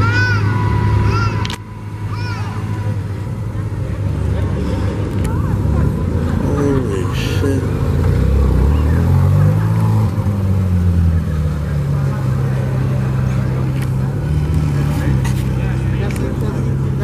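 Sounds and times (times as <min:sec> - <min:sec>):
car engine pulling away: 0:00.0 - 0:17.0.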